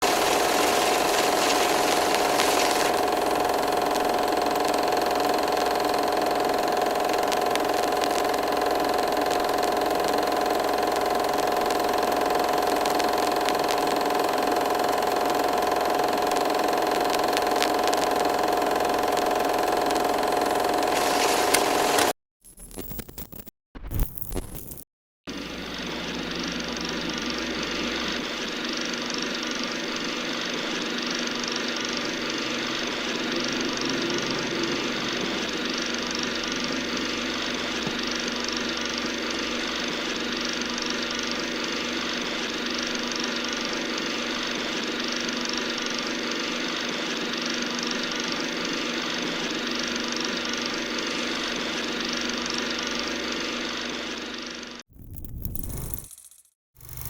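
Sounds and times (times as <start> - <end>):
machine humming: 0.0 - 22.1, 25.3 - 55.9.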